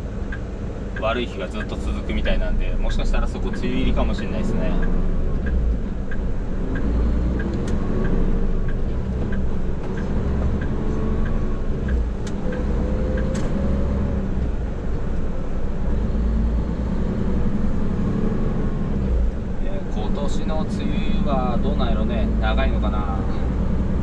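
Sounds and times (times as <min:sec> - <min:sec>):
diesel truck engine running: 0:00.0 - 0:24.0
turn signal ticking: 0:00.0 - 0:24.0.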